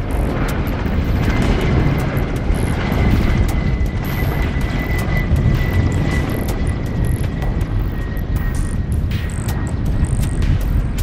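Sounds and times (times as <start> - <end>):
helicopter rotor rumble: 0.0 - 11.0
high-pitched whine: 0.0 - 11.0.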